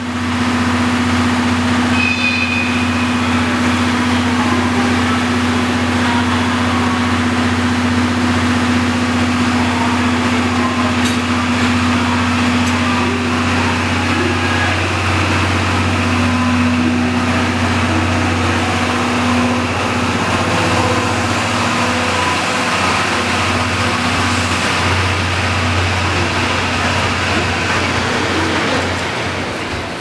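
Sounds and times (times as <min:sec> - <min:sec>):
diesel locomotive engines droning: 0:00.0 - 0:30.0.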